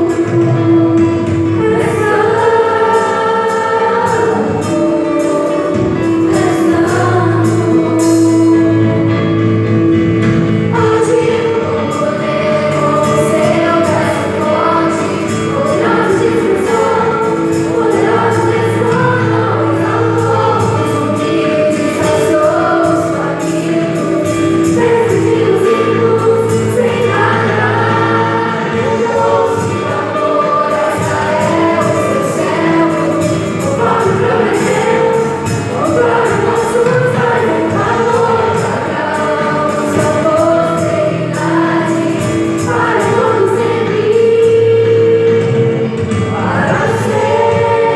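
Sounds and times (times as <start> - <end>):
children's choir singing: 0.0 - 47.9
instrumental accompaniment: 0.0 - 47.9.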